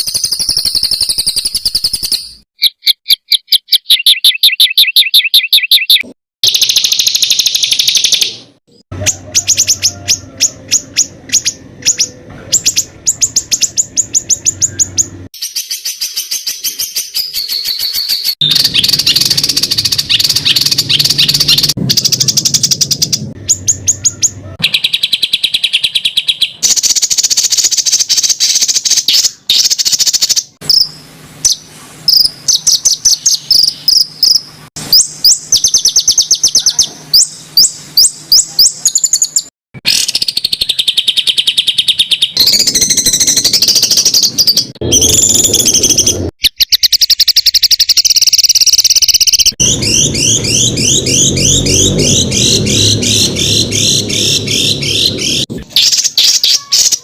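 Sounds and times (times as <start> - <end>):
songbird rapid high notes: 0.0 - 46.4, 47.4 - 57.0.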